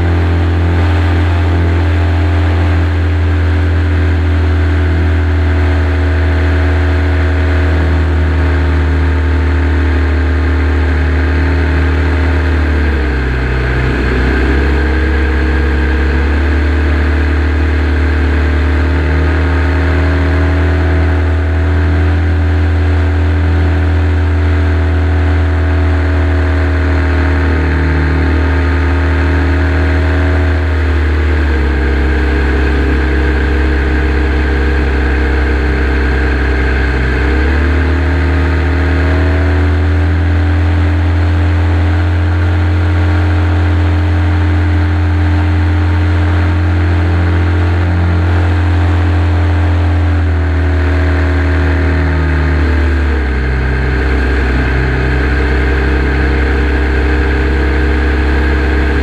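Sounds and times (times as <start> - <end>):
model plane radial engine running: 0.0 - 59.0.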